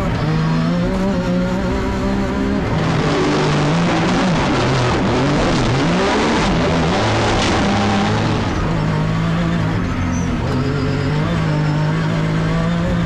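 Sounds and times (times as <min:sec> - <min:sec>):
engine revving hard: 0:00.0 - 0:13.0.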